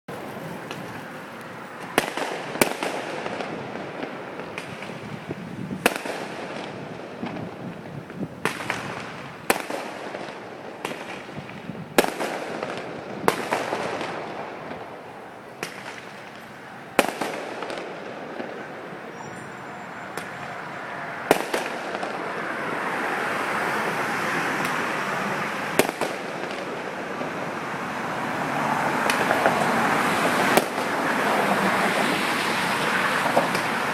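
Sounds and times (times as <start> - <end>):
background rushing noise: 0.1 - 33.9
fireworks bursting: 0.1 - 33.9.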